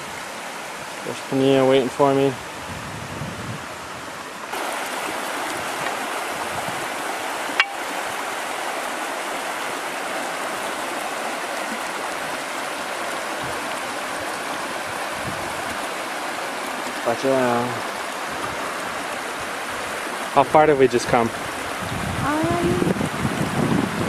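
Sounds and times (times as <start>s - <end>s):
river running over stones: 0.0s - 24.0s.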